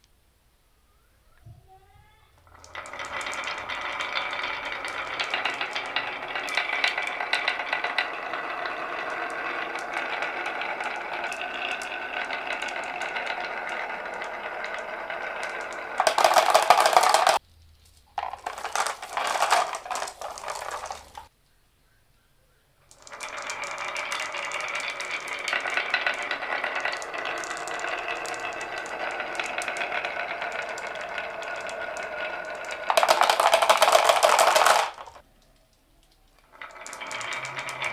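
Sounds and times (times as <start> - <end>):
marbles clattering down a wooden run: 2.4 - 17.4, 18.2 - 21.3, 22.9 - 35.2, 36.4 - 37.9.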